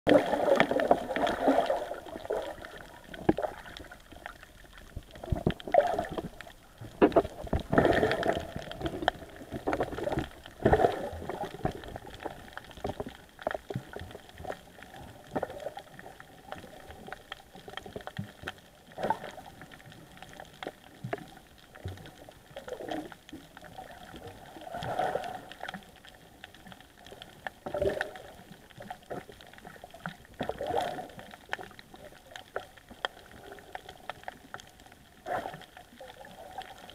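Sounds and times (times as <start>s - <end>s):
gurgling and bubbling water: 0.1s - 36.9s
knocks and clicks underwater: 0.1s - 36.9s.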